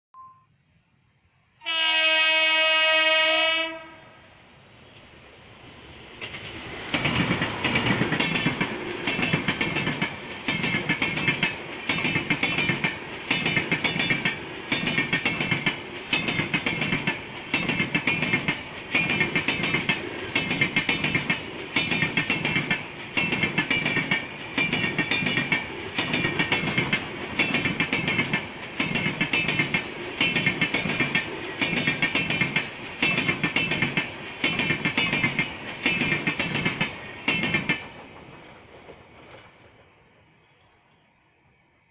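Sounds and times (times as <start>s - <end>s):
train rolling roar: 1.6s - 41.8s
wheels clattering over rail joints: 5.7s - 39.9s.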